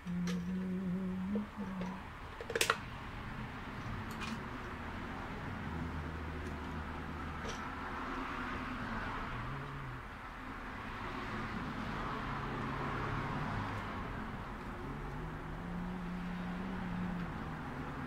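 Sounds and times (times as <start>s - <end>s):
road noise: 0.0s - 18.0s
vehicle engines passing: 0.0s - 18.0s.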